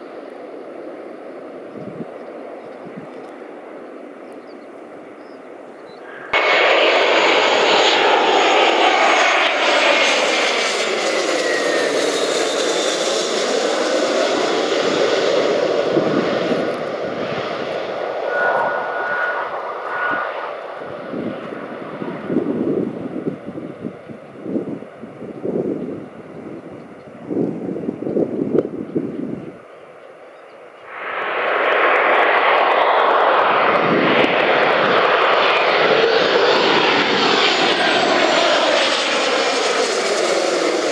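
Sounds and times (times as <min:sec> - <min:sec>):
distant jet rumble: 0:00.0 - 0:40.9
jet airliner passing overhead: 0:00.0 - 0:40.9.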